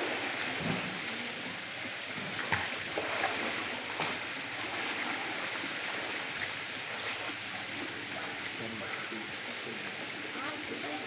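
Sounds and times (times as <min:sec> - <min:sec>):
light water splashes: 0:00.0 - 0:11.0.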